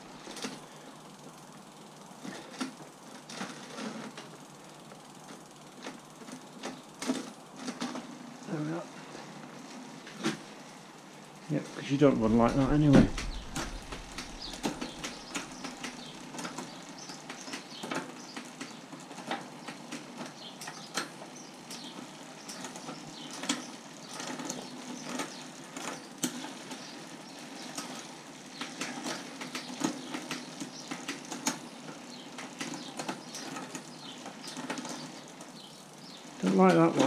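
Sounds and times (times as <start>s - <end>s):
bicycle chain whirring: 0.0s - 37.0s.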